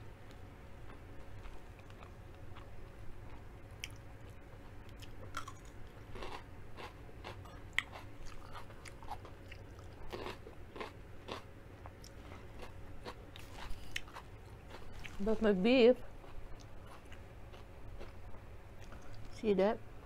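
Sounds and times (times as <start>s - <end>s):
steady low hum: 0.0s - 20.0s
crunchy vegetable chewing: 0.8s - 15.6s, 16.2s - 19.4s.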